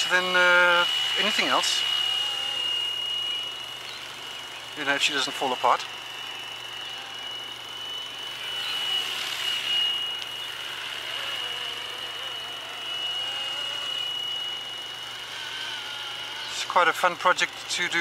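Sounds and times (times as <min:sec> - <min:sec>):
rc helicopter whine: 0:00.0 - 0:18.0.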